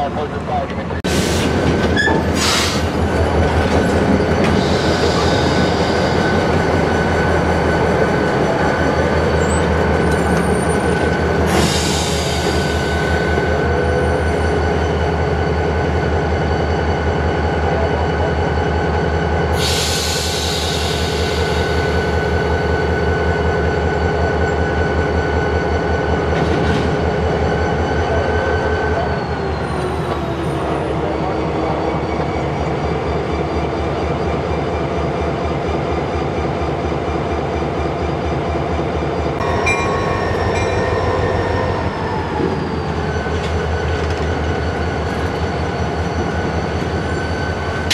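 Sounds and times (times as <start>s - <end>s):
diesel locomotive engine droning: 0.0s - 47.9s.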